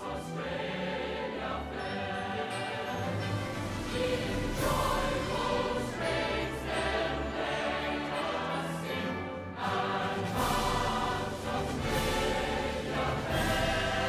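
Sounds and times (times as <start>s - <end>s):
choir singing long notes: 0.0s - 14.0s
musical accompaniment: 0.0s - 14.0s.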